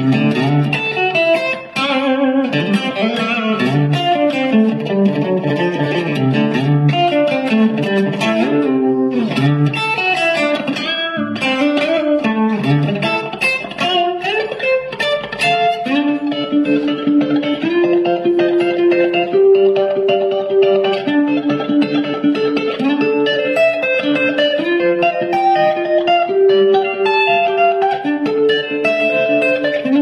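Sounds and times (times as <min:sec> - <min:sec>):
guitar music with pitch bends: 0:00.0 - 0:30.0.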